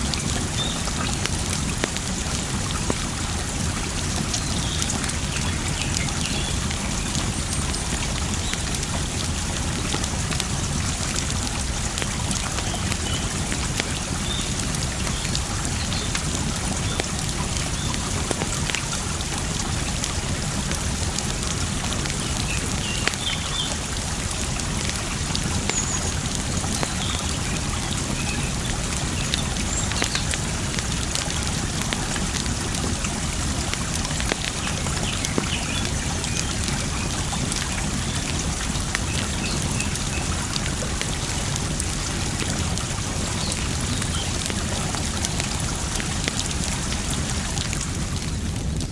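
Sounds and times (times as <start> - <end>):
water trickling and splashing: 0.0 - 48.9
wood fire crackling: 0.0 - 48.9.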